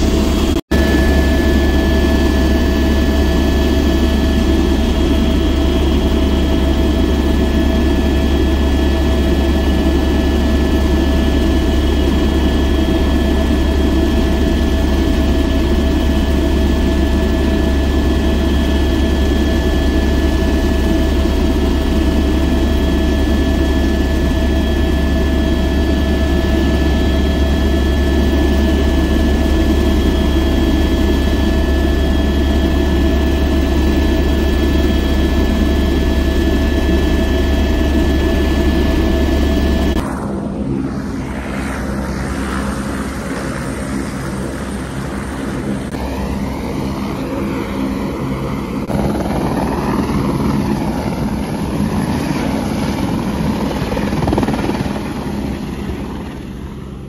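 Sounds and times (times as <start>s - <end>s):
helicopter rotor drone: 0.0s - 57.0s
helicopter turbine whine: 0.0s - 57.0s.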